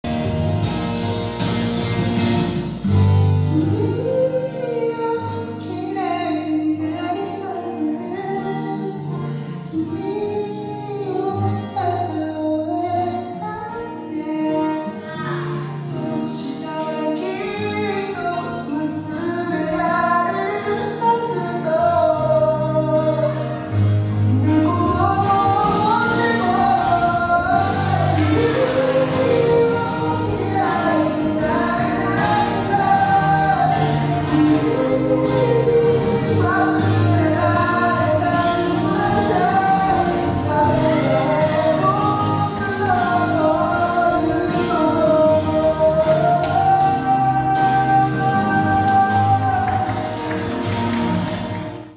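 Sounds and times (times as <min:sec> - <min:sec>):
pop song with vocals: 0:00.0 - 0:51.9.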